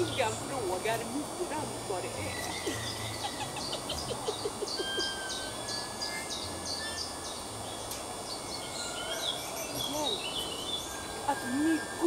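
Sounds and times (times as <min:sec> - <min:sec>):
outdoor background noise: 0:00.0 - 0:12.0
songbird singing high notes: 0:02.0 - 0:12.0.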